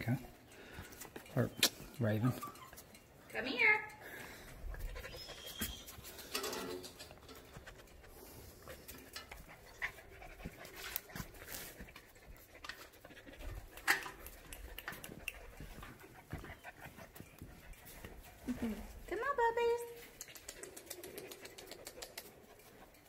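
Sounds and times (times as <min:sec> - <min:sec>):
puppies panting: 0:00.1 - 0:23.0.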